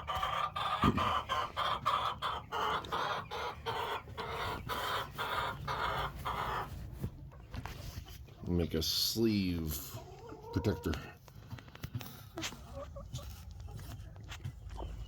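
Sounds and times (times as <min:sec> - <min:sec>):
hen clucking: 0:00.0 - 0:15.0.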